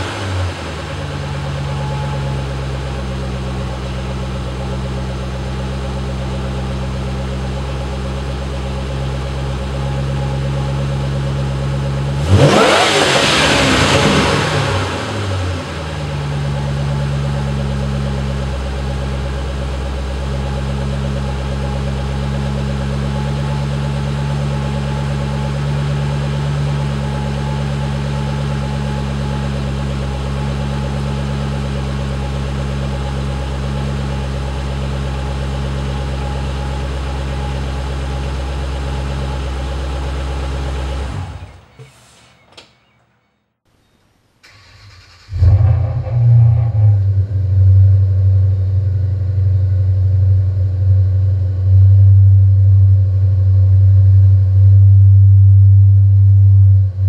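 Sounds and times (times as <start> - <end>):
car engine idling: 0.0 - 41.9, 44.5 - 57.0.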